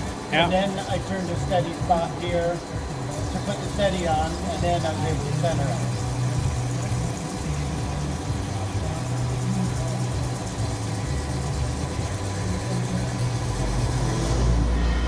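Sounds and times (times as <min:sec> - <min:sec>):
hiss of coolant and cutting: 0:00.0 - 0:15.0
lathe machine hum: 0:00.0 - 0:15.0.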